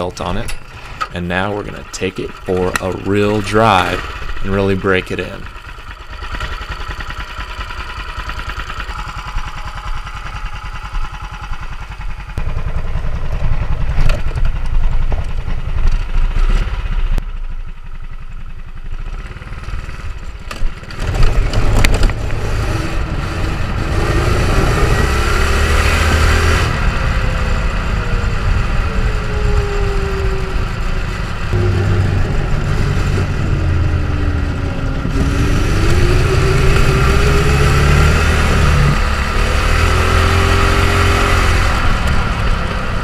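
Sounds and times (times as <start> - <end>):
go-kart engine running: 0.0 - 43.0.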